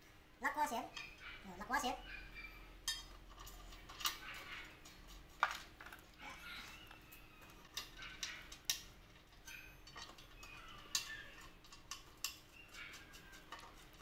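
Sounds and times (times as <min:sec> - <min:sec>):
small metal clinks: 0:00.9 - 0:01.4, 0:02.8 - 0:14.0.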